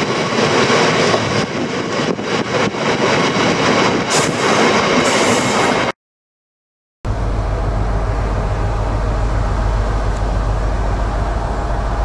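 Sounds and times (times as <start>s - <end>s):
diesel locomotive engine rumbling: 0.0s - 5.9s, 7.1s - 12.0s.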